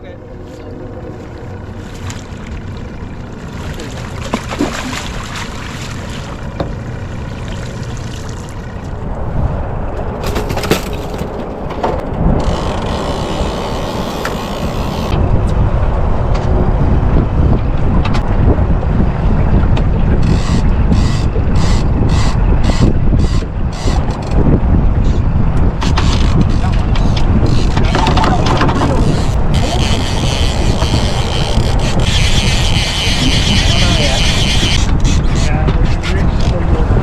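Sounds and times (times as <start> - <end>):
boat motor running: 0.0 - 37.0
wind buffeting microphone: 0.0 - 37.0.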